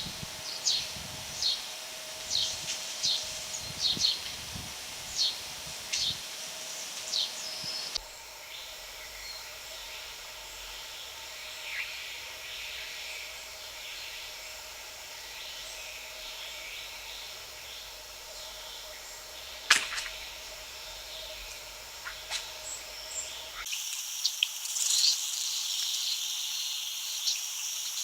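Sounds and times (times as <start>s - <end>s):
distant birds: 0.0s - 23.7s
insect chorus: 0.0s - 28.0s.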